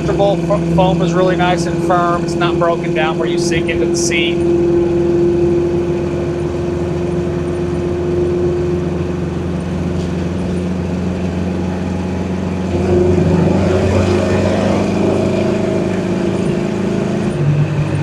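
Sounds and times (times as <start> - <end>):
car engine and exhaust: 0.0 - 18.0
tyre and road noise: 0.0 - 18.0.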